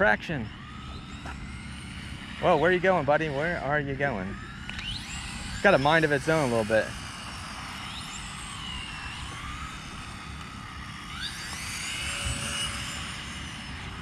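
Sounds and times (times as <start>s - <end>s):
high-pitched electric motor whine: 0.0s - 14.0s.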